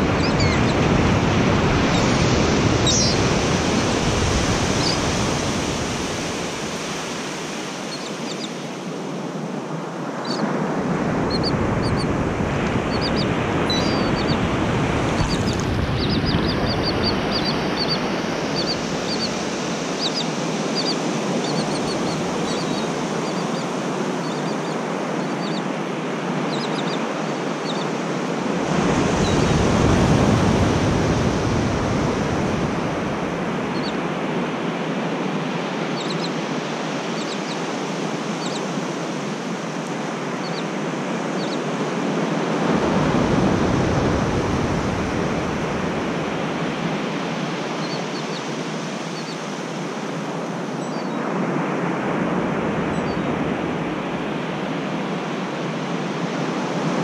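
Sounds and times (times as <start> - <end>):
ocean surf on a beach: 0.0 - 57.0.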